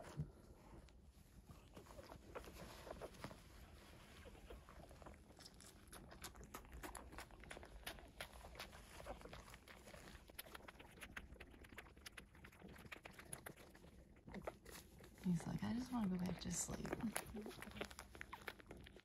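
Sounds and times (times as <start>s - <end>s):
rustling of fur and bedding: 0.0s - 11.2s, 14.3s - 19.0s
puppies suckling clicks: 1.6s - 19.0s.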